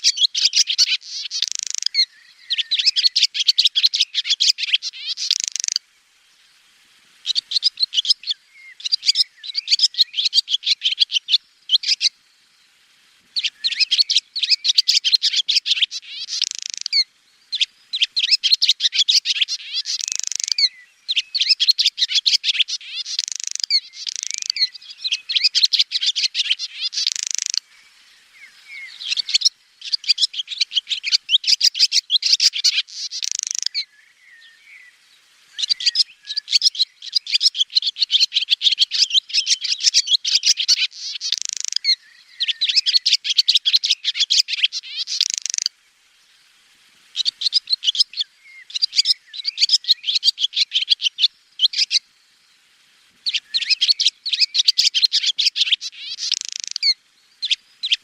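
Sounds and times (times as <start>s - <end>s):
swallow twittering: 0.0s - 5.8s, 7.2s - 12.2s, 13.4s - 45.7s, 47.1s - 52.0s, 53.2s - 58.0s.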